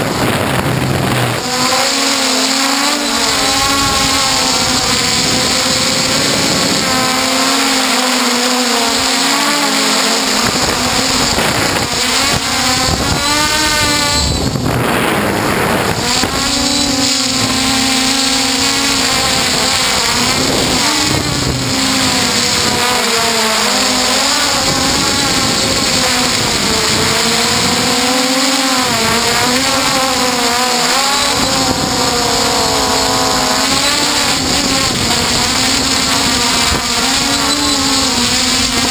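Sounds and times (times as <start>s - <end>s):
quadcopter motors whining: 0.0s - 38.9s.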